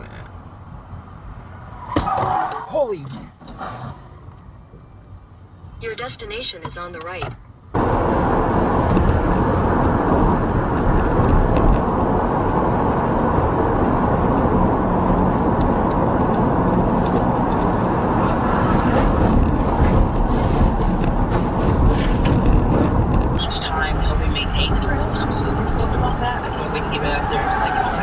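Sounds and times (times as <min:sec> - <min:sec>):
moving vehicle noise: 0:00.0 - 0:28.0.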